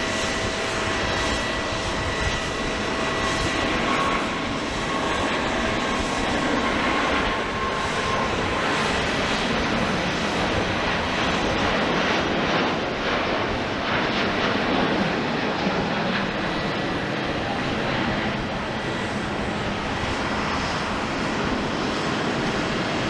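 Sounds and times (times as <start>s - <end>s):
jet engine rush: 0.0s - 23.0s.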